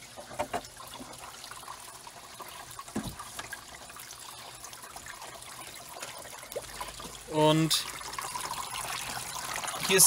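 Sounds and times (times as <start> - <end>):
water trickling in filter: 0.0 - 10.0.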